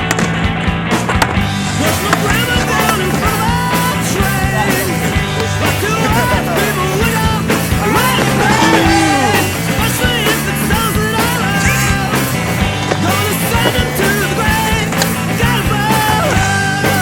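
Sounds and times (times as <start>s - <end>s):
loud rock music: 0.0s - 17.0s
person singing: 1.7s - 17.0s.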